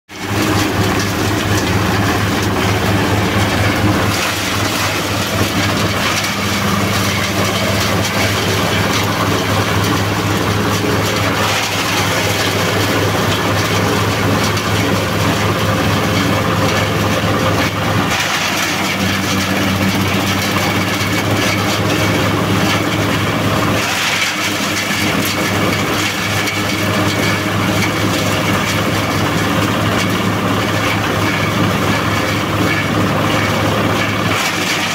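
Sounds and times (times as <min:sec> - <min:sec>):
blades chopping leafy branches: 0:00.1 - 0:34.9
compost shredder engine: 0:00.1 - 0:34.9.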